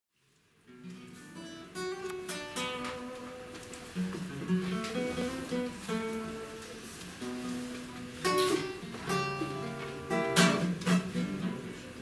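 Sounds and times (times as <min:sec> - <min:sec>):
classical guitar playing: 0:00.6 - 0:12.0.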